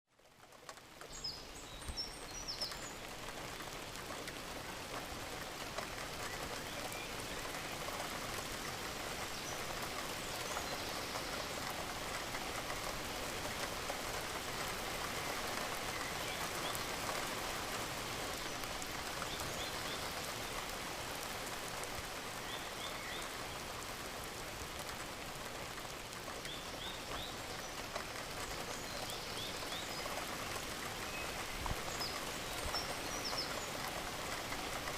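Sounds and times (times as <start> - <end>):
gentle rain falling: 0.1 - 34.9.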